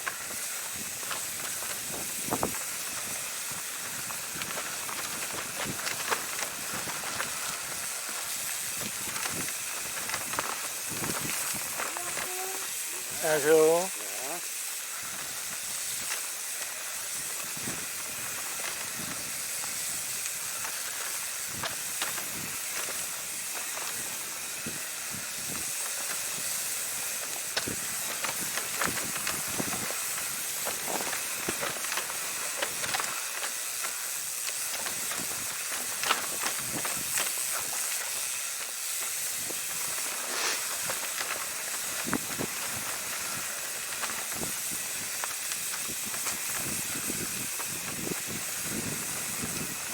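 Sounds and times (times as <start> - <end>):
bike clicks and rattles: 0.0 - 49.9
tyres and wind hissing: 0.0 - 49.9.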